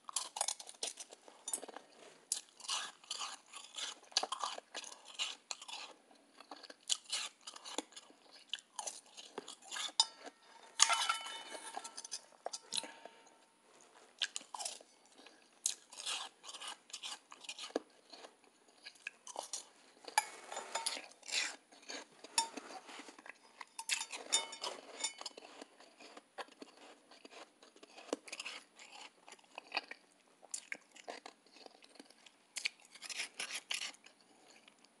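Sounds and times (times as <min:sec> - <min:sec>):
chewing crunchy ice: 0:00.0 - 0:13.4, 0:14.1 - 0:34.9.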